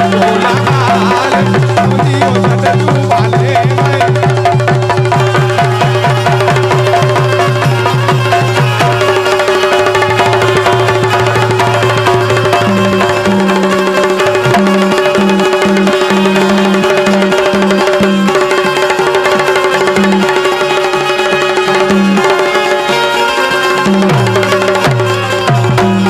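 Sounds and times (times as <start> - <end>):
fast hand-drum rhythm: 0.0 - 26.0.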